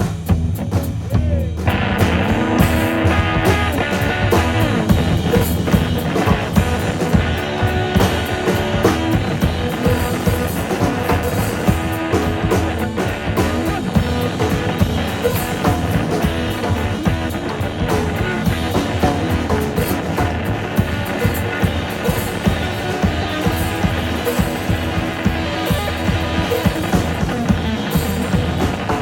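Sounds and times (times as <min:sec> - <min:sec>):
drums: 0:00.0 - 0:29.0
electric guitar: 0:00.0 - 0:29.0
live band playing instrumental: 0:00.0 - 0:29.0.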